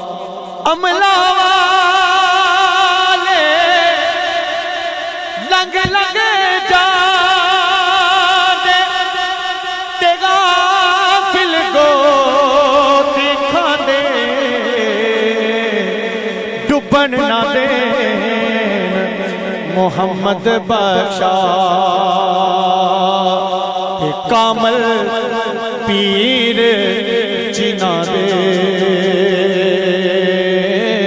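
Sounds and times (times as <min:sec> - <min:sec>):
man singing unaccompanied: 0:00.0 - 0:31.0.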